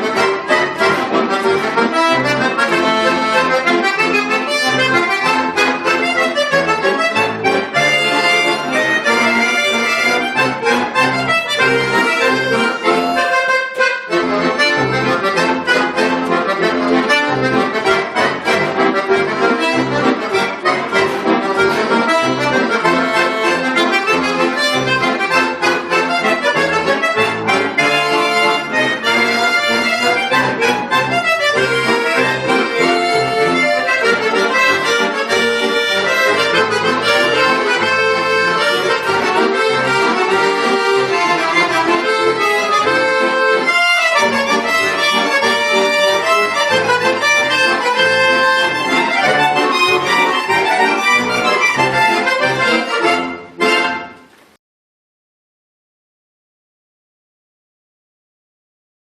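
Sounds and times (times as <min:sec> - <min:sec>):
button accordion playing fast music: 0:00.0 - 0:54.2.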